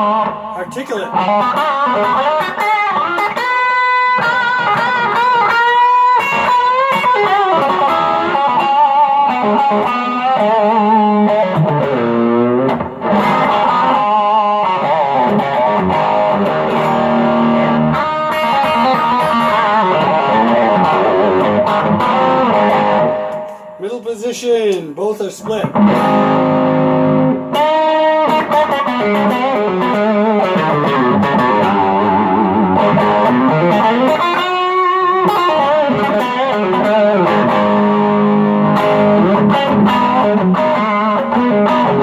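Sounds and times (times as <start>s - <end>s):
overdriven electric guitar lead: 0.0s - 23.8s, 24.6s - 42.0s.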